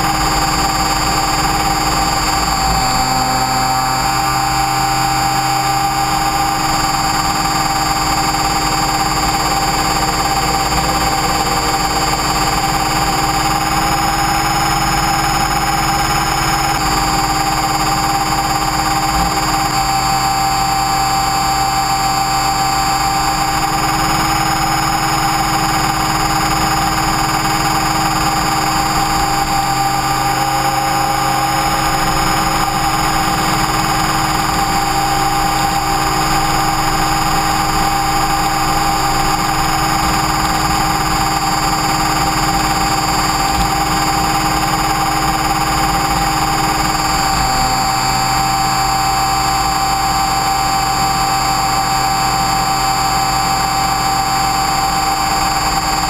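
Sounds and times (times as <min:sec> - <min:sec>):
helicopter motor whine: 0:00.0 - 0:56.0.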